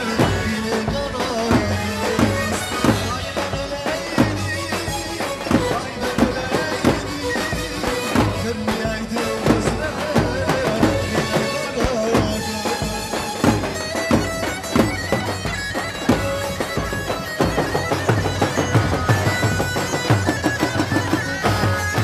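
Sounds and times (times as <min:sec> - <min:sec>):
drum kit beat: 0:00.0 - 0:22.0
live folk dance band: 0:00.0 - 0:22.0
reedy wind lead melody: 0:00.0 - 0:22.0.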